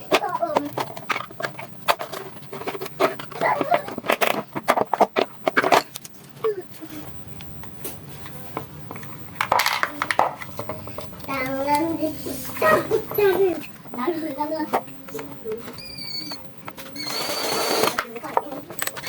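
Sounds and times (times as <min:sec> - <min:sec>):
hard objects clicking and knocking: 0:00.0 - 0:06.4, 0:07.1 - 0:11.9, 0:14.6 - 0:19.0.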